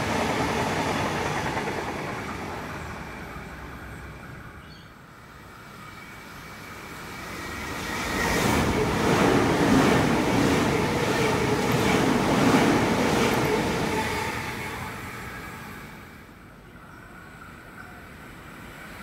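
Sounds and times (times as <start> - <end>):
electric train passing at speed: 0.0 - 19.0.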